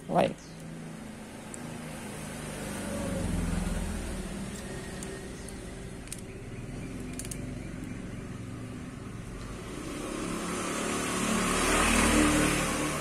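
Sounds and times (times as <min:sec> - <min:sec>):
vehicle engine passing by: 0:00.7 - 0:13.0.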